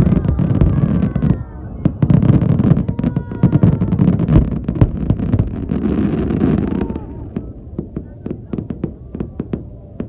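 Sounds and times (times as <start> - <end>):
fireworks bangs and crackles: 0.0 - 10.0
low fireworks rumble: 0.0 - 10.0.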